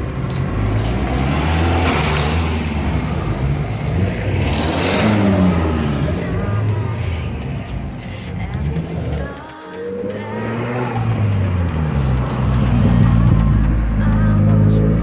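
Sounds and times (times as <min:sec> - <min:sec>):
cars accelerating past: 0:00.0 - 0:15.0.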